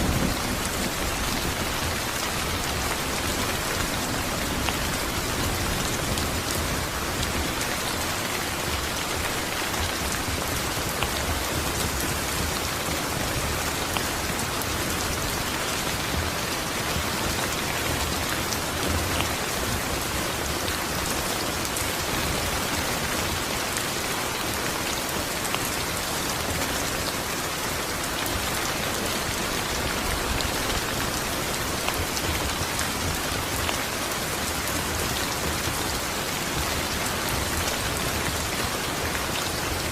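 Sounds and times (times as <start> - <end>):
raindrops pattering on a surface: 0.0 - 39.9
steady rainfall: 0.0 - 39.9.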